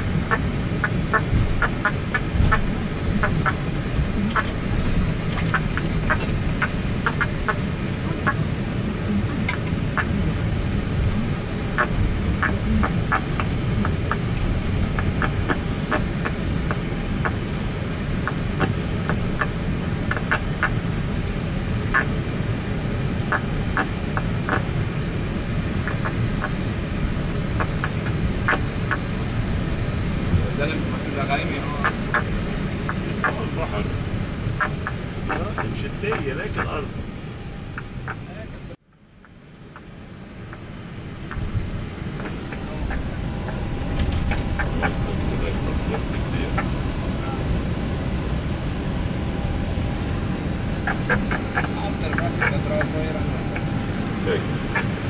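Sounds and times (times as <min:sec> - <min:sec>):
aircraft cockpit rumble: 0:00.0 - 0:55.0.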